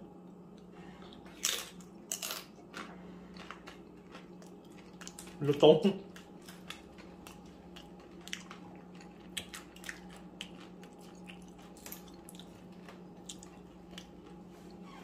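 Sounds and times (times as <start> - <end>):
person chewing crunchy chips: 1.1 - 14.8.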